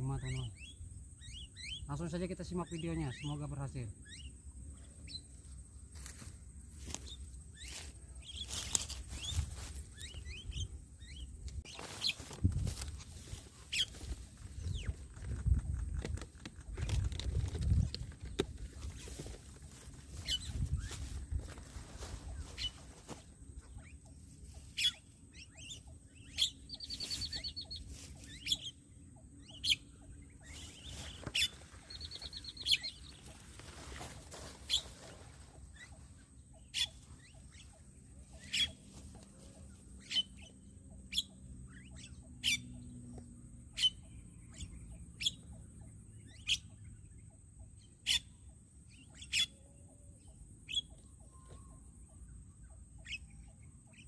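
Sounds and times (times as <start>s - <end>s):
starling chirps: 0.0s - 5.5s, 6.8s - 15.4s, 17.4s - 43.0s, 43.7s - 45.6s, 46.2s - 49.6s, 50.2s - 54.0s.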